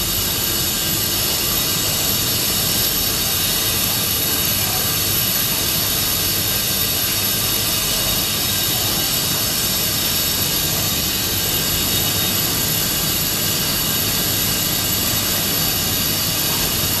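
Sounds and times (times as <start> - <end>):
constant high whine: 0.0 - 17.0
washing machinery running: 0.0 - 17.0.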